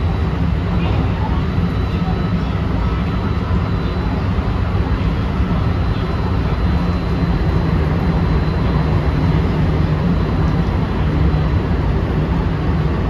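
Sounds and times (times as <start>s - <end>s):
faint high whine: 0.0s - 13.0s
low drone: 0.0s - 13.0s.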